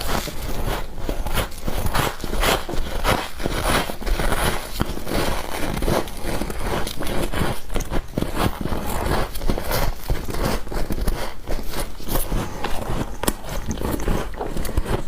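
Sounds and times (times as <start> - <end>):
person chewing ice: 0.0 - 15.0.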